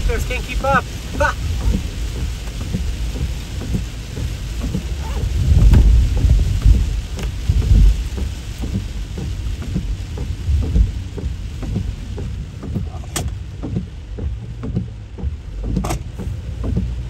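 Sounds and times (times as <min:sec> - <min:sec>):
deep rumble: 0:00.0 - 0:17.0
heavy rain pelting a vehicle: 0:00.0 - 0:17.0.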